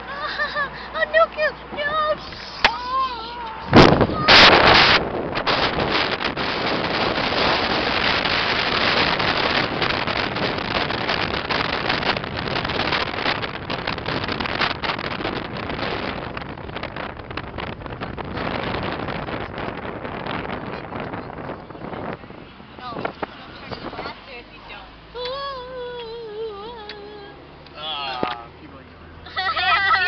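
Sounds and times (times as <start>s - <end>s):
wind buffeting microphone: 0.9s - 27.6s.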